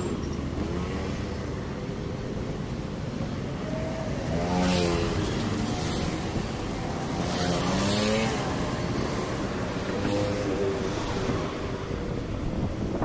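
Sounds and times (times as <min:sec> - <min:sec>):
motor vehicles passing: 0:00.0 - 0:13.0.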